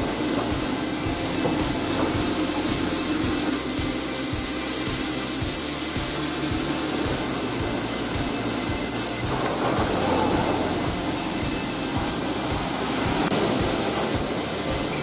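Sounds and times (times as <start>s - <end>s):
low mechanical clatter: 0.0s - 15.0s
sawmill machinery rumble: 0.0s - 15.0s.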